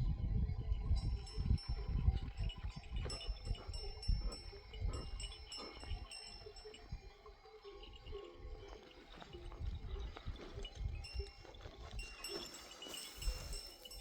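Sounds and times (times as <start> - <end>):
animal bells clinking: 0.5 - 14.0.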